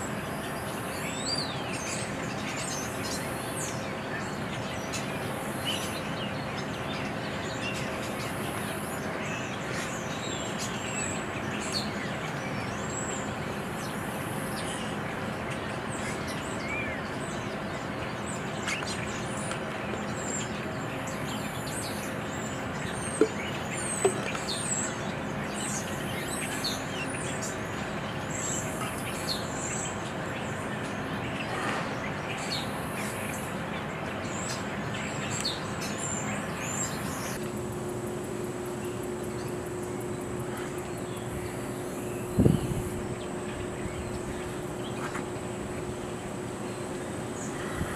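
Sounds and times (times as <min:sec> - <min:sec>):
distant traffic and machinery hum: 0:00.0 - 0:47.9
small birds chirping: 0:00.0 - 0:47.9.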